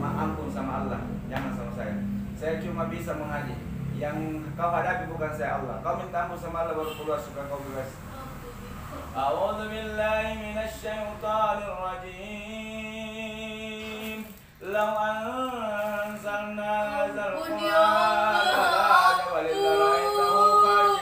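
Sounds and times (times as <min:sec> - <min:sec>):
man chanting melodic recitation: 0:00.0 - 0:08.1, 0:09.2 - 0:21.0.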